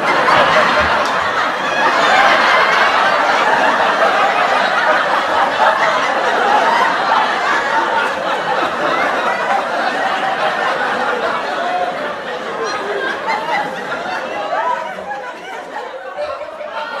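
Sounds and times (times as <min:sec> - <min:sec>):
studio audience laughing: 0:00.0 - 0:17.0.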